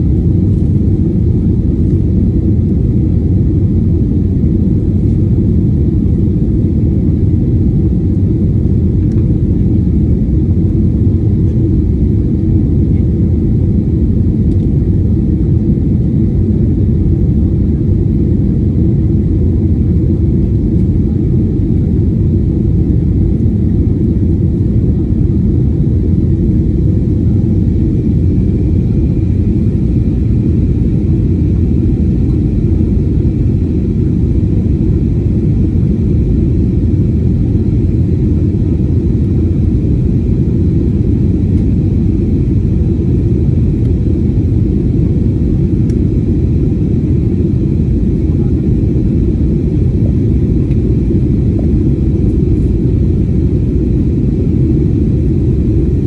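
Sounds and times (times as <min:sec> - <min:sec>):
jet engine rumble in cabin: 0:00.0 - 0:56.0.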